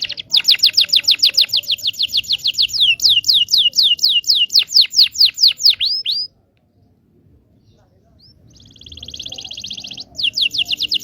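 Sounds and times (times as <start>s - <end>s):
canary singing a fast trill: 0.0s - 6.3s, 7.6s - 11.0s.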